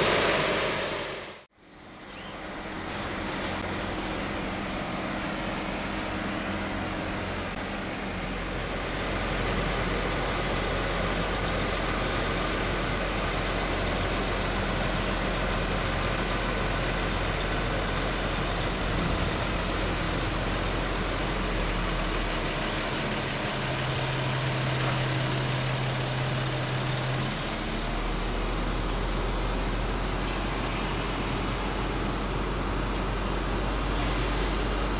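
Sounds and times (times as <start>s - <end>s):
diesel truck engine running: 0.0s - 34.9s
train rolling on rails: 0.0s - 34.9s.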